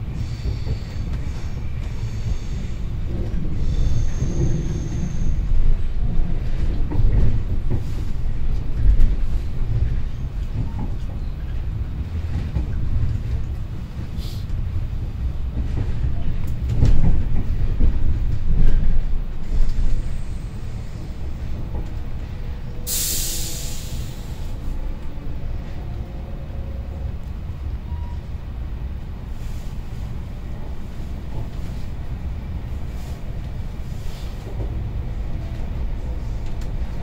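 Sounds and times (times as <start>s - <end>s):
train low rumble: 0.0s - 37.0s.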